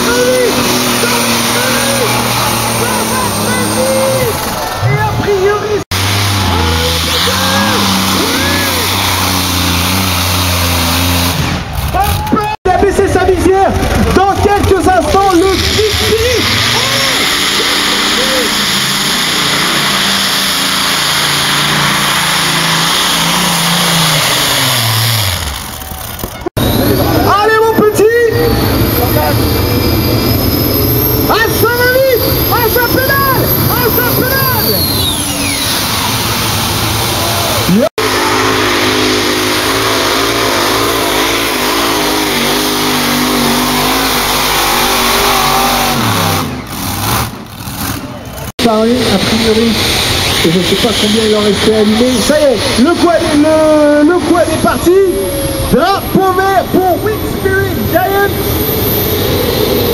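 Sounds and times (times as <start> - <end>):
tractor engine roaring: 0.0 - 59.9.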